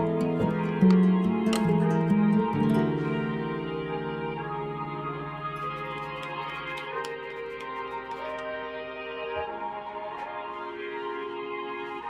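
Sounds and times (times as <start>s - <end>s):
soft slow background music: 0.0s - 12.0s.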